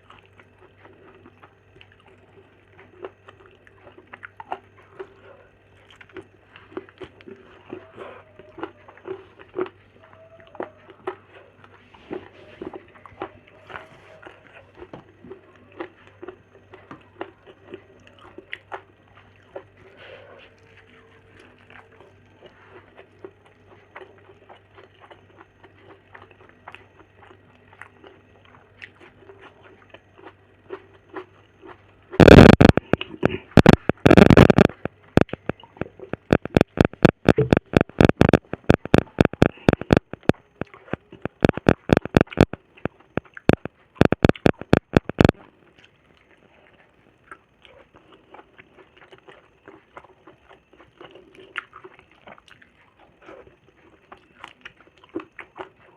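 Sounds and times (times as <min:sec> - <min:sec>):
person chewing food: 0:00.0 - 0:55.9.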